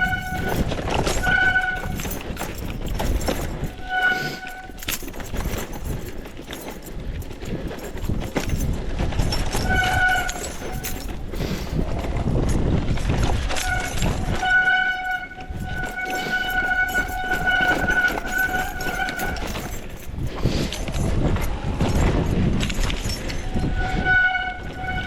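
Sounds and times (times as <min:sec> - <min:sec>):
brakes squealing: 0:00.0 - 0:05.7, 0:09.2 - 0:12.4, 0:13.5 - 0:25.0
bike rattling on rough trail: 0:00.0 - 0:25.0.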